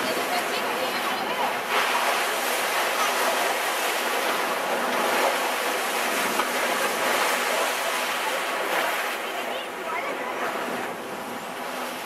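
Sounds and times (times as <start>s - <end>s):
sea water rushing along hulls: 0.0s - 12.0s.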